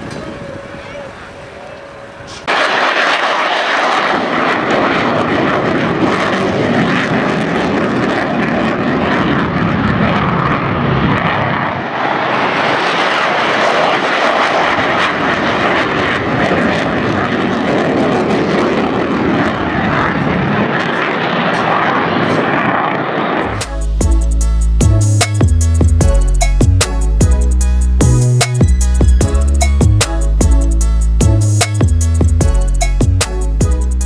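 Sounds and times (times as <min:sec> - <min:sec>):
airplane flying past: 0:00.0 - 0:34.0.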